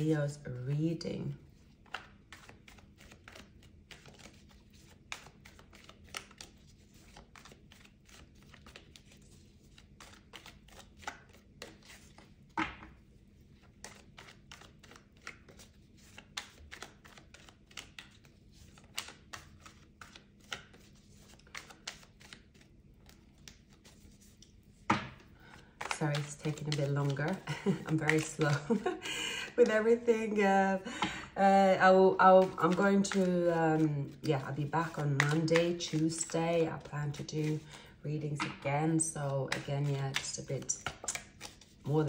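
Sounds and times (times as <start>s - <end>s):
cards being shuffled: 1.5s - 42.0s.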